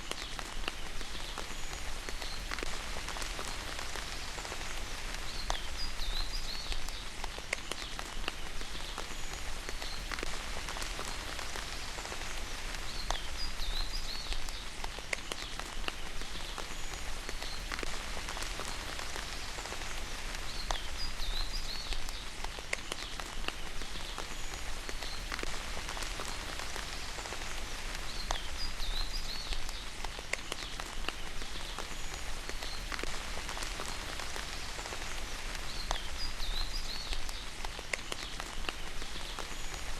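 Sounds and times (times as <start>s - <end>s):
sharp water drips: 0.0s - 39.9s
steady rain: 0.0s - 39.9s.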